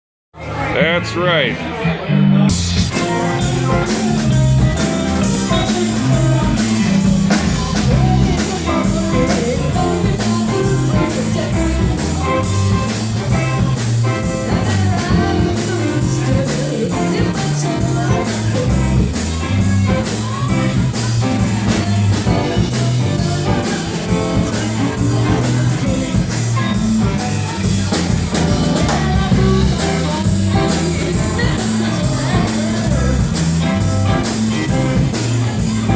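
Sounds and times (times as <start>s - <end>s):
blues-rock band playing: 0.8s - 35.9s.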